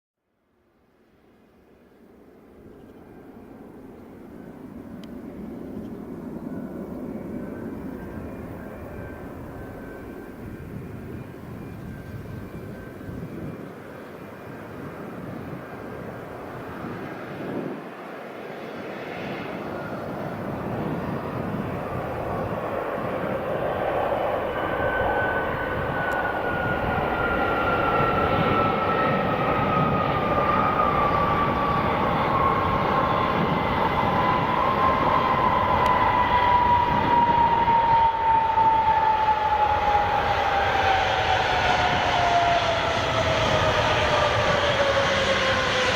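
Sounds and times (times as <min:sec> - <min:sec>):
jet engine noise: 0:01.3 - 0:45.9
jet engine whine falling in pitch: 0:01.6 - 0:45.9.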